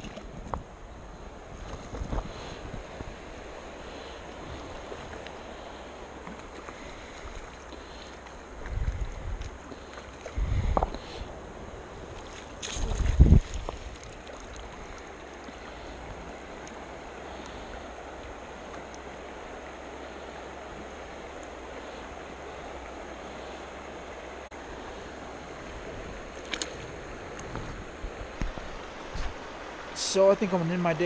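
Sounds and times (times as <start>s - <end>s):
rocky river flowing: 0.0s - 31.0s.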